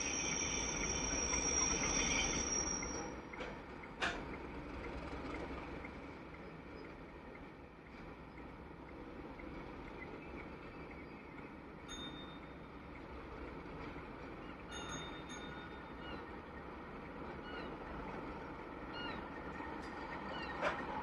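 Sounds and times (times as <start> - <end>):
distant diesel train rumble: 0.0 - 21.0.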